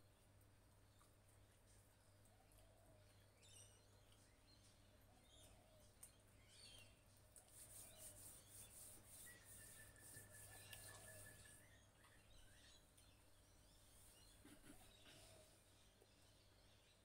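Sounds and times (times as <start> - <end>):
birds chirping: 0.9 - 17.0.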